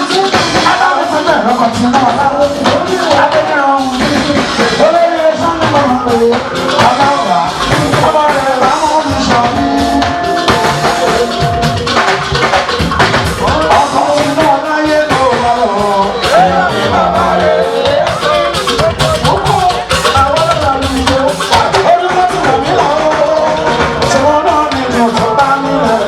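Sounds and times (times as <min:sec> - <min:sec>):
drums: 0:00.0 - 0:26.0
person singing: 0:00.0 - 0:26.0.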